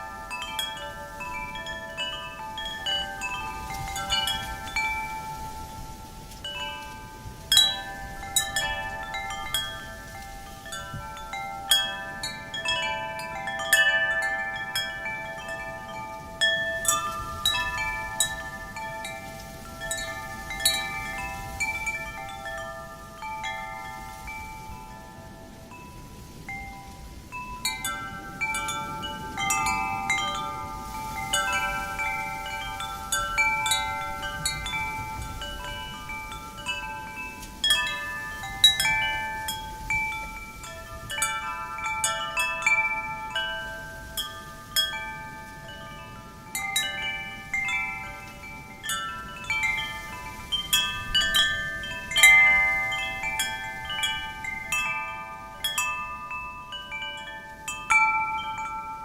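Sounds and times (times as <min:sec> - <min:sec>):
faint wind rush: 0:00.0 - 0:59.0
wind chimes ringing: 0:00.0 - 0:59.0.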